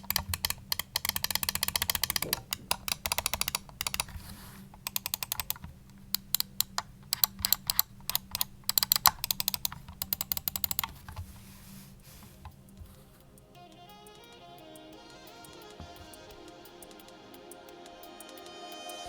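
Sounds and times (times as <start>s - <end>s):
mouse clicking: 0.0s - 19.0s.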